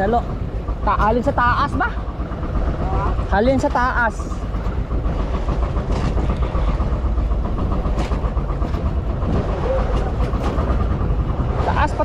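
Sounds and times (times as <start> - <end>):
engine running with ticking: 0.0 - 12.0.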